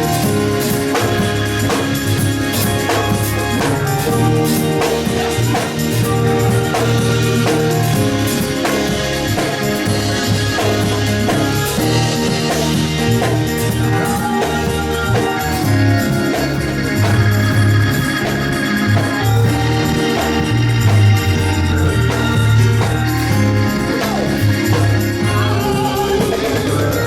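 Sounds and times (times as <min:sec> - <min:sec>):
drum strikes: 0:00.0 - 0:27.0
organ holding chords: 0:00.0 - 0:27.0
pulsing bass line: 0:00.0 - 0:27.0.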